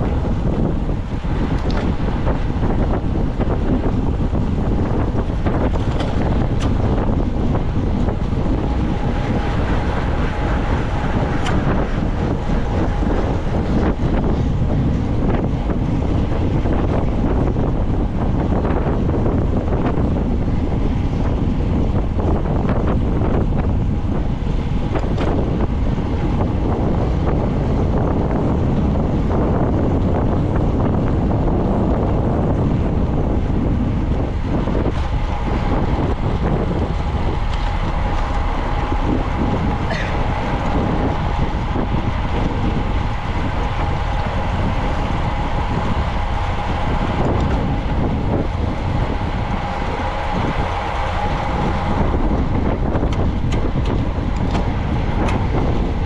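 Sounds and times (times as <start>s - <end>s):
faint steady whine: 0.0s - 56.0s
wind rumble on microphone: 0.0s - 56.0s.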